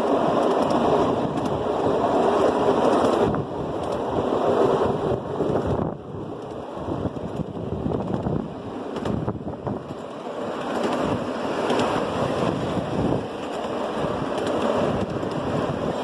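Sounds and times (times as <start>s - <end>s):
wheels rumbling on rail: 0.0s - 16.0s
wind buffeting microphone: 0.0s - 16.0s.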